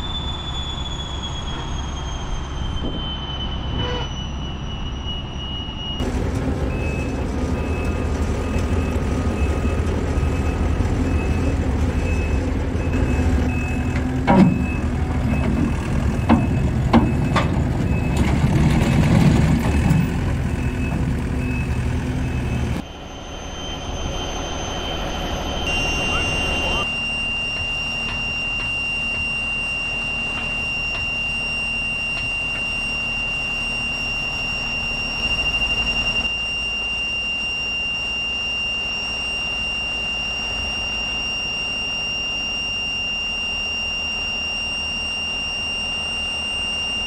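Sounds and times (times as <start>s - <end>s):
backup alarm beeping: 0.0s - 47.0s
diesel engine running: 5.8s - 47.0s.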